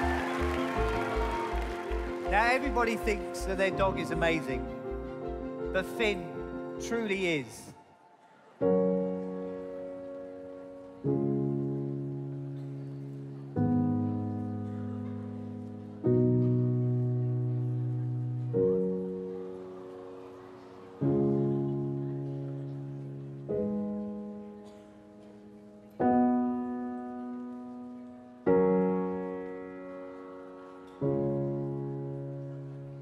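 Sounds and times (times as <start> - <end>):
soft piano chords: 0.0 - 33.0.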